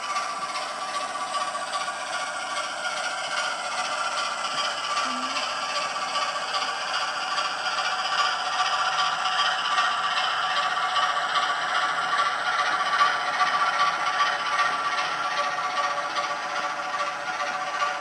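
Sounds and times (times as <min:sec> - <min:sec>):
model train rattling on track: 0:00.0 - 0:18.0.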